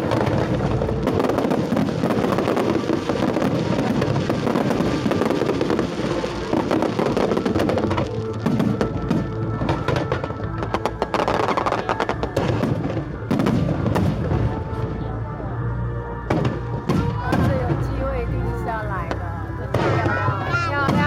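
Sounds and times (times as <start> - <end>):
fireworks bursting and crackling: 0.0 - 15.1, 16.2 - 21.0.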